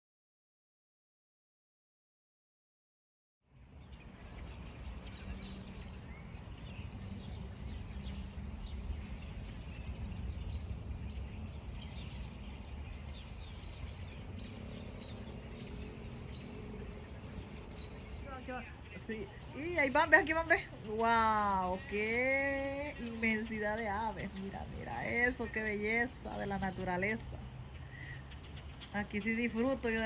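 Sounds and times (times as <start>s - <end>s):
birds chirping and calling: 3.6s - 30.0s
low background rumble: 3.8s - 30.0s.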